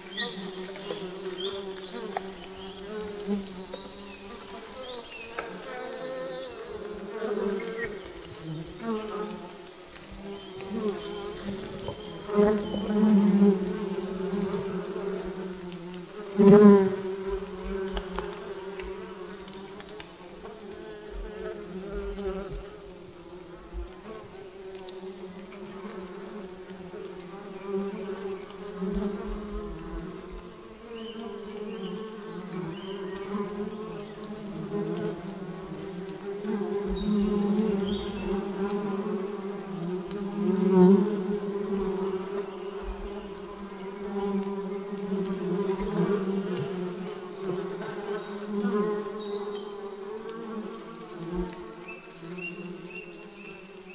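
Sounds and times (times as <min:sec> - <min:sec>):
bees buzzing: 0:00.0 - 0:53.9
single bee buzzing close: 0:00.0 - 0:53.9.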